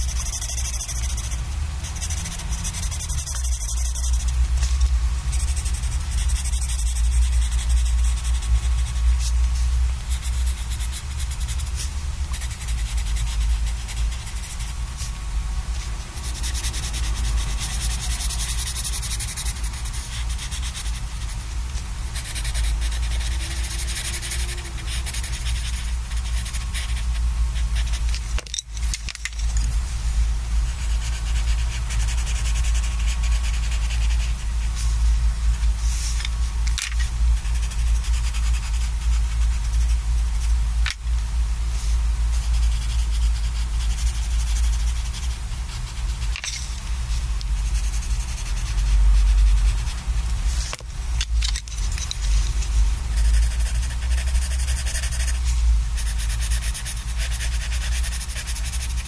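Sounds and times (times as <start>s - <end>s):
colored pencil scratching on paper: 0.0s - 15.1s, 16.2s - 21.4s, 22.1s - 28.2s, 30.7s - 35.0s, 37.4s - 40.6s, 42.3s - 46.4s, 47.2s - 50.7s, 51.7s - 59.0s.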